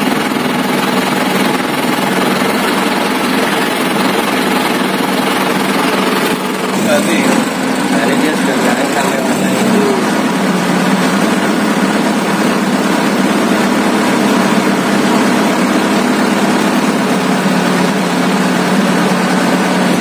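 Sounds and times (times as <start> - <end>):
air compressor pumping: 0.0 - 20.0
diesel engine running: 0.0 - 20.0.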